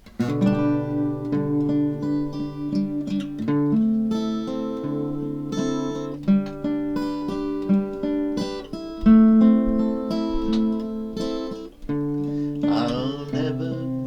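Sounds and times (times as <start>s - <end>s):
acoustic guitar strumming and picking: 0.0s - 14.0s.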